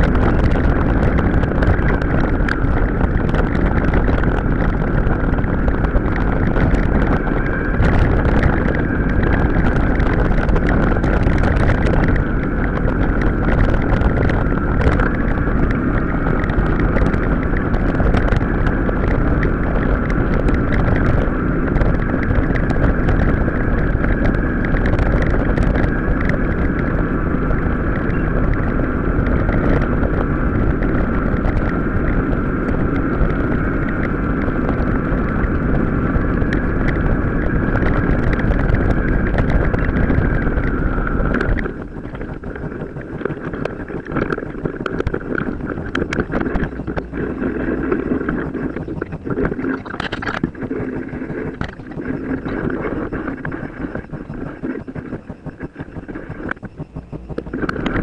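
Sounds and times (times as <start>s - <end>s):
small rattles: 0.0s - 58.0s
steady high whine: 0.0s - 58.0s
tyre rumble over rough ground: 0.0s - 58.0s
wind buffeting microphone: 0.0s - 58.0s.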